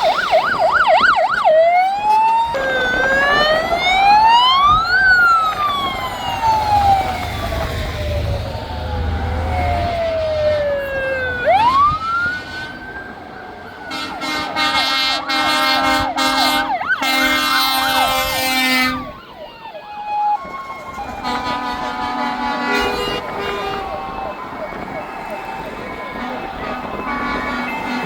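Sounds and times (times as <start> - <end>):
fast yelping siren: 0.0 - 28.0
fire engine sirens wailing: 0.0 - 28.0.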